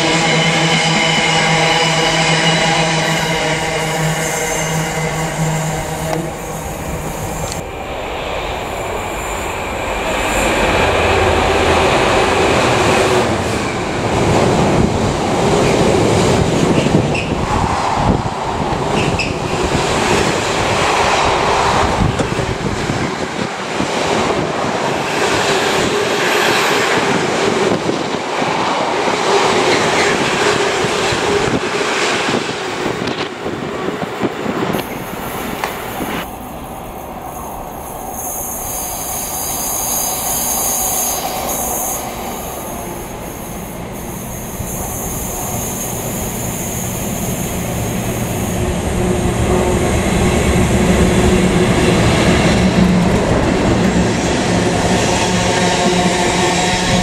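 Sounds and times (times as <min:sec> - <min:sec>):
freight train rumbling and clattering: 0:00.0 - 0:57.0.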